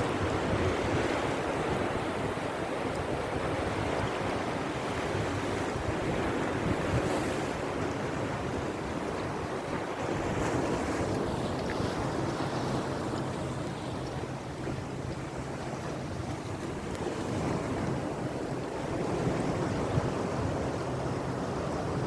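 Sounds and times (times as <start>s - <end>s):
sea surf washing on shore: 0.0s - 22.0s
wind buffeting microphone: 0.0s - 22.0s.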